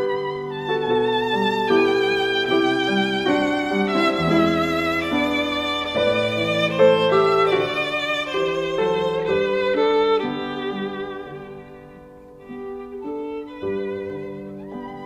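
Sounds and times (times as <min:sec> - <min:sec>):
violin playing slow melody: 0:00.0 - 0:15.0.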